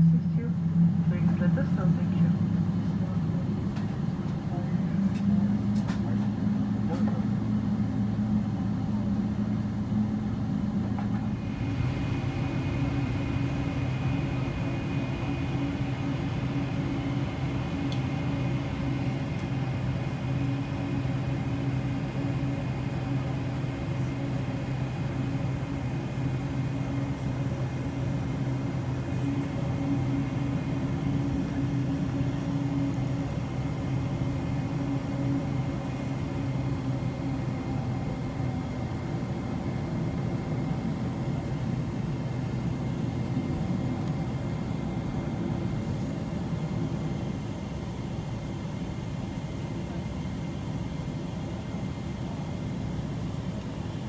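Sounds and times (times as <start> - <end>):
low hum: 0.0 - 48.2
jet engines rumbling in cabin: 0.0 - 54.0.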